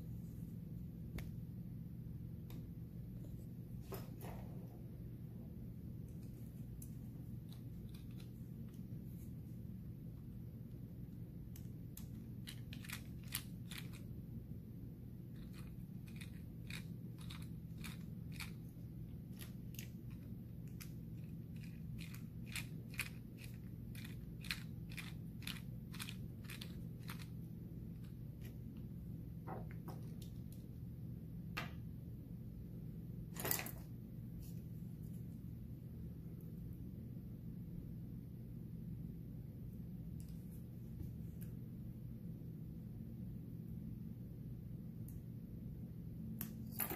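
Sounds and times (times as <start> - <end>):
low hum: 0.0 - 46.9.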